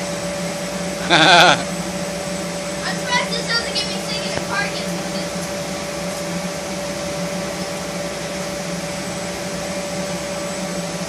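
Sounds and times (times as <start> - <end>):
constant machine whine: 0.0 - 11.0
machinery whirring: 0.0 - 11.0.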